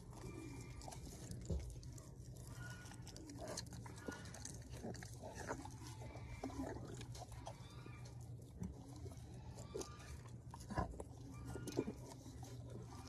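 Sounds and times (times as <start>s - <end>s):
animals wet chewing and licking: 0.0s - 13.0s
steady low hum: 0.0s - 13.0s.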